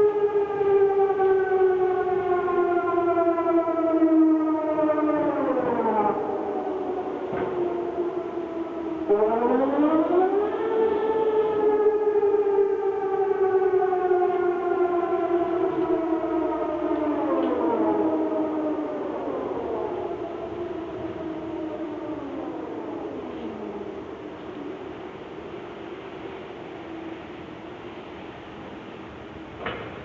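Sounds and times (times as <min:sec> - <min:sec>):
air-raid sirens howling: 0:00.0 - 0:29.8.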